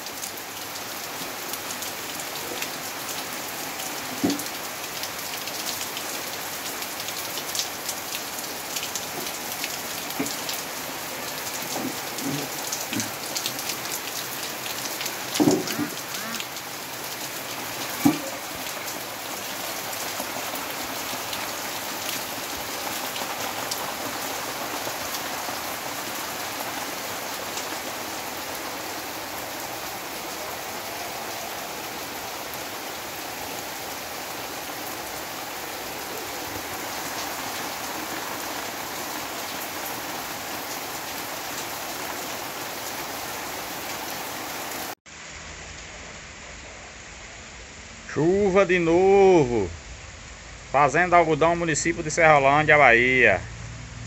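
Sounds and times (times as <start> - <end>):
raindrops striking nearby: 0.0 - 45.0
heavy rain hissing: 0.0 - 53.4.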